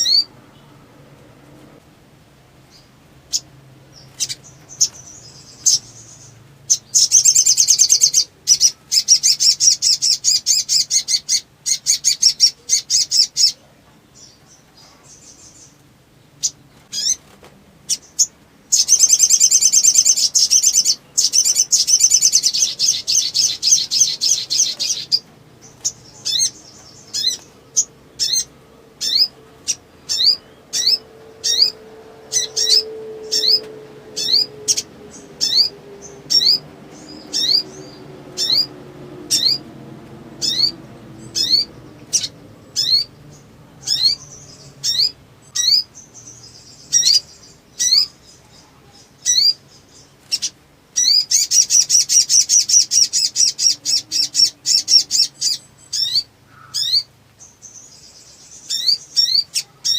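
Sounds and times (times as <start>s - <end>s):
songbird high rattling trills: 2.7s - 13.6s, 16.4s - 39.8s, 40.4s - 59.9s.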